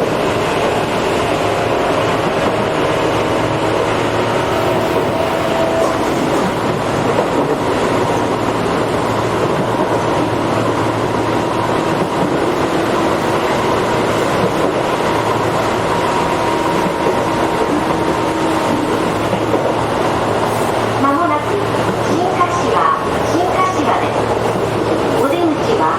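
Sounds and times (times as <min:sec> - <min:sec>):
train rail and running noise: 0:00.0 - 0:25.9.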